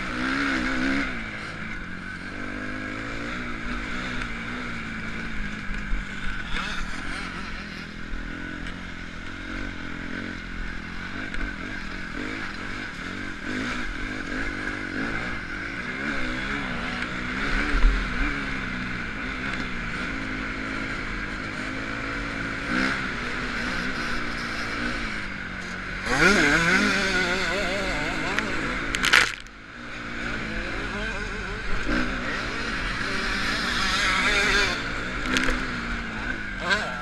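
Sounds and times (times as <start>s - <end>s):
motocross bike engine revving: 0.0s - 37.0s.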